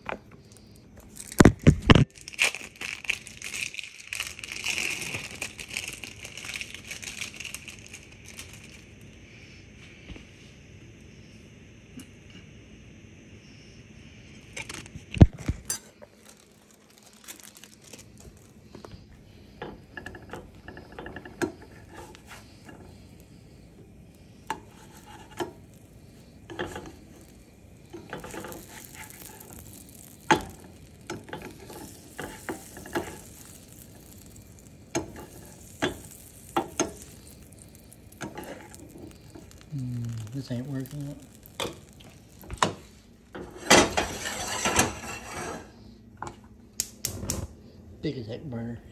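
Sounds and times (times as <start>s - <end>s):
sandwich sizzling in a pan: 0.0s - 10.1s, 13.9s - 46.0s.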